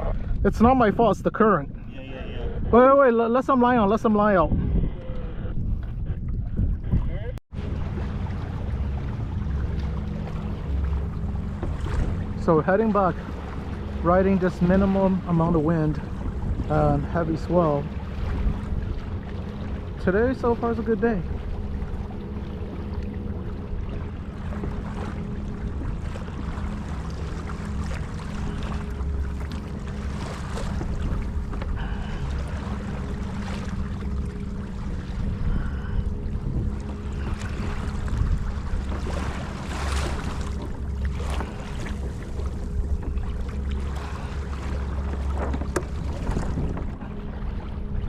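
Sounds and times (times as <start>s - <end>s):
water splashing against hull: 0.0s - 48.0s
wind rumbling on microphone: 0.0s - 48.0s.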